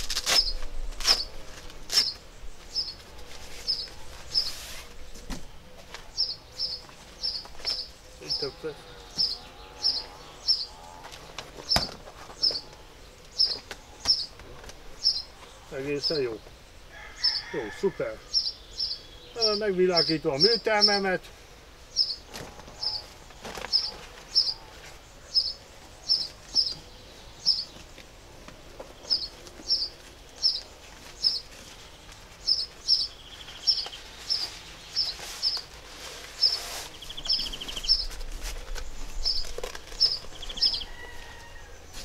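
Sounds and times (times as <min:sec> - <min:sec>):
bird chirping: 0:00.3 - 0:17.6, 0:18.3 - 0:21.2, 0:21.8 - 0:28.0, 0:28.8 - 0:42.0.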